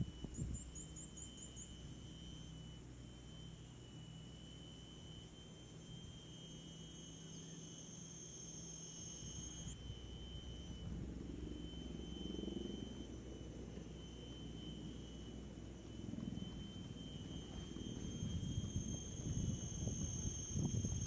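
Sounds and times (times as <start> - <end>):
insects droning: 0.0 - 21.0
low steady hum: 0.0 - 21.0.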